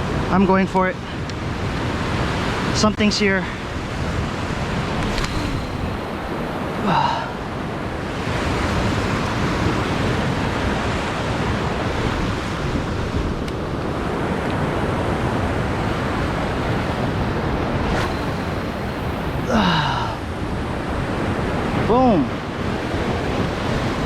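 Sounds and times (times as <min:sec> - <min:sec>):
ocean surf breaking on rocks: 0:01.4 - 0:24.0
wind buffeting microphone: 0:03.6 - 0:24.0.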